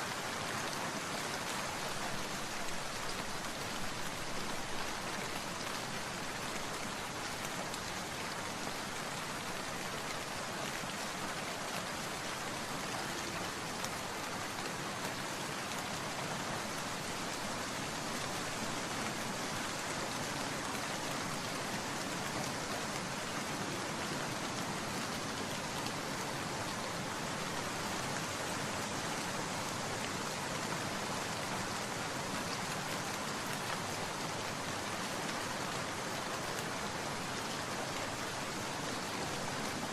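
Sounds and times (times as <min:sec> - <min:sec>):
rain pattering: 0:00.1 - 0:39.9.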